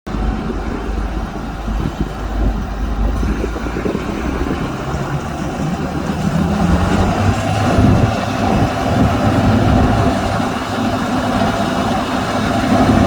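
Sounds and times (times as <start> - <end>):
combine harvester running: 0.1 - 13.0.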